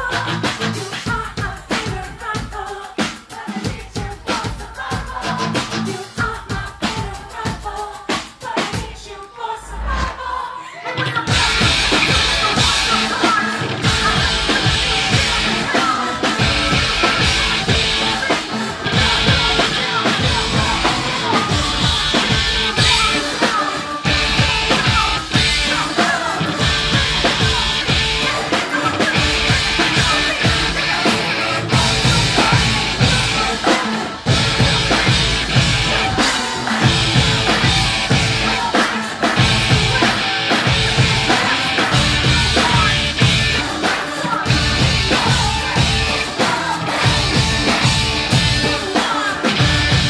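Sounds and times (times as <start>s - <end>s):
electric guitar: 0.0s - 2.2s, 10.9s - 50.0s
drum beat: 0.0s - 9.0s, 11.3s - 50.0s
live rock band: 0.0s - 9.0s, 11.0s - 50.0s
woman singing: 0.0s - 50.0s.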